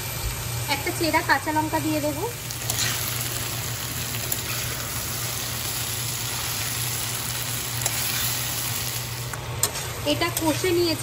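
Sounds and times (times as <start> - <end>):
vegetables sizzling in hot oil: 0.8 - 11.0.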